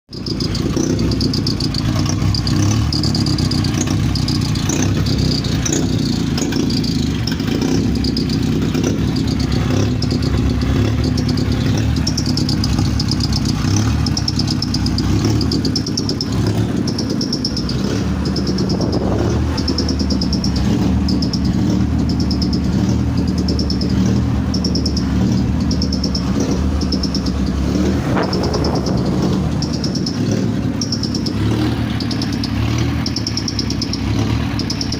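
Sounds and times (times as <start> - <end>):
generator engine running: 0.1 - 34.9.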